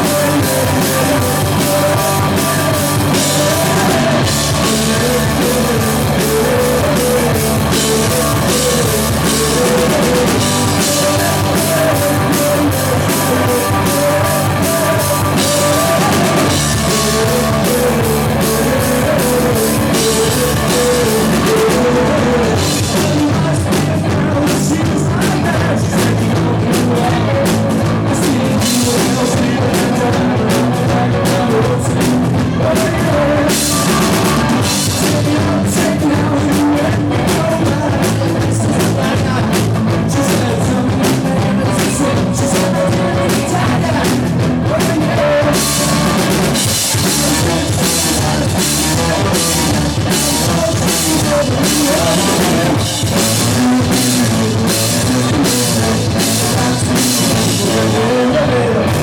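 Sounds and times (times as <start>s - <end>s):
person singing: 0.0s - 59.0s
rock band playing: 0.0s - 59.0s.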